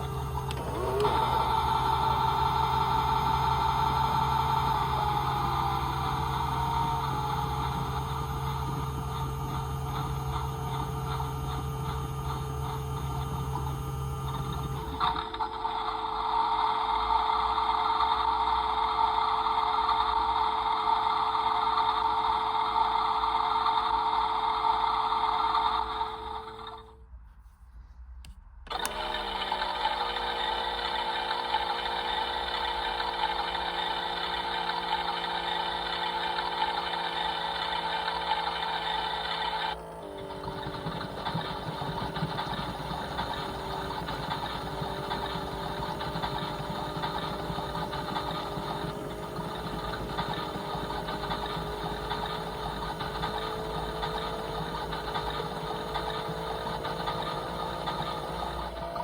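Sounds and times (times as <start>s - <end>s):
small electric motor running: 0.0s - 27.0s, 28.7s - 59.0s.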